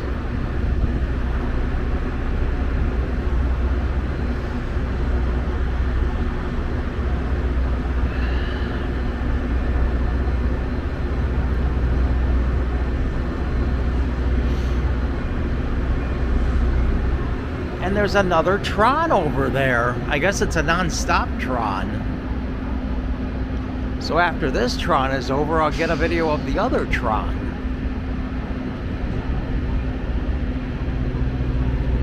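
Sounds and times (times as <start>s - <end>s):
diesel locomotive droning: 0.0s - 32.0s.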